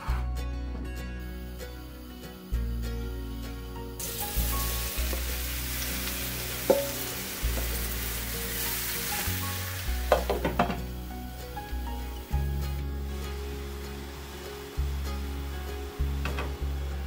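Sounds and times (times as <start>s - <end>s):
mushrooms sizzling in oil: 1.4s - 17.0s.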